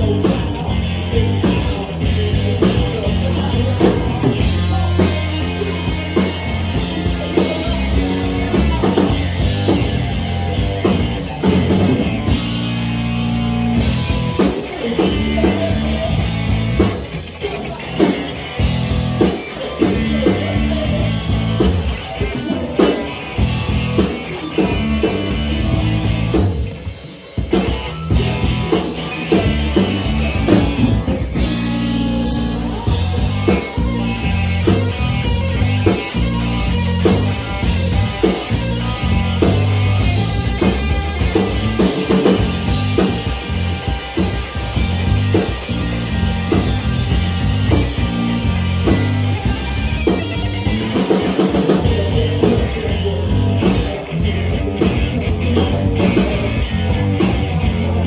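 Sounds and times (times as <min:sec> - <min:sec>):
drum kit: 0:00.0 - 0:58.0
electric guitar: 0:00.0 - 0:58.0.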